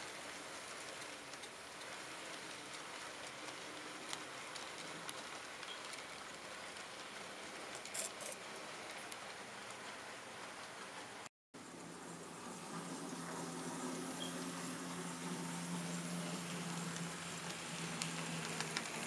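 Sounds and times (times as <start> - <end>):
model train wheels hissing on rail: 0.0 - 19.0.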